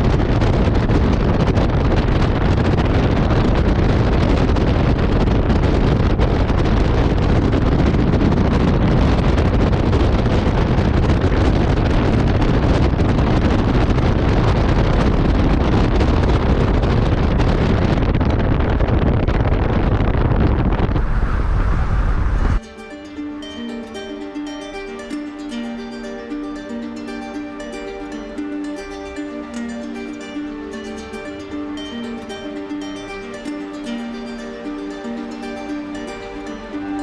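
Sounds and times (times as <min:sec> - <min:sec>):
strong wind on microphone: 0:00.0 - 0:37.0.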